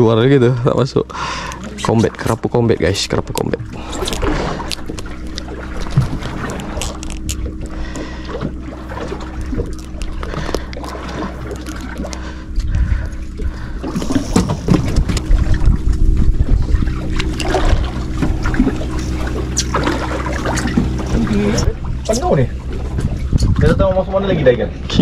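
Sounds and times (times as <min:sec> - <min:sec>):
boat engine humming: 0:00.0 - 0:25.0
rough rumbling noise: 0:00.0 - 0:25.0.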